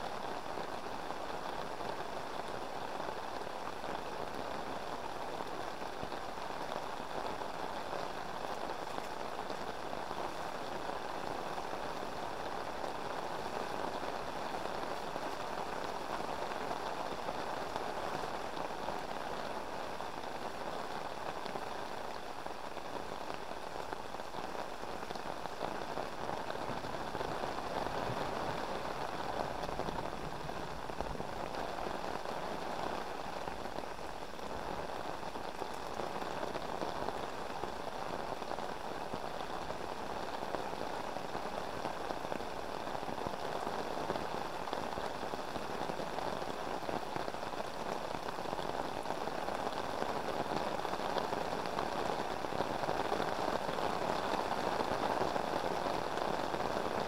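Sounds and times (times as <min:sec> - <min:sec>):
heavy rain on umbrella: 0:00.0 - 0:57.0
rain on river surface: 0:00.0 - 0:57.0.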